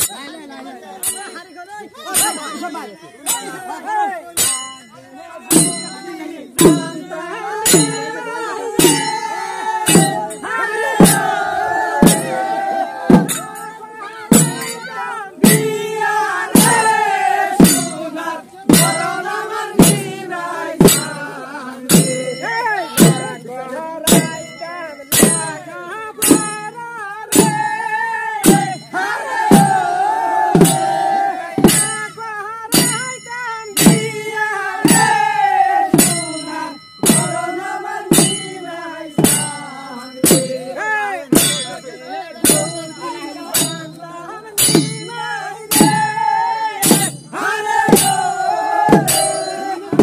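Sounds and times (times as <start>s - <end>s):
men singing a chant: 0.0s - 50.0s
sharp percussive strikes: 1.0s - 50.0s.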